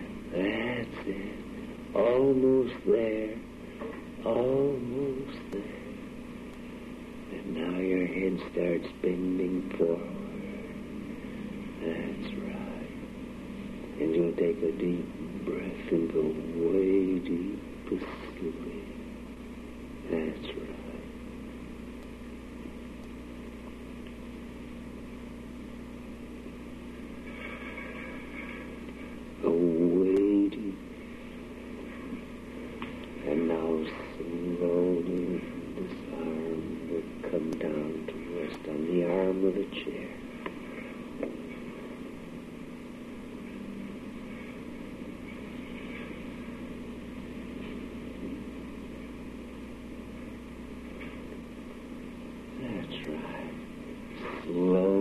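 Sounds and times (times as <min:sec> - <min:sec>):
low even hum: 0:00.0 - 0:55.0
recording hiss: 0:00.0 - 0:55.0.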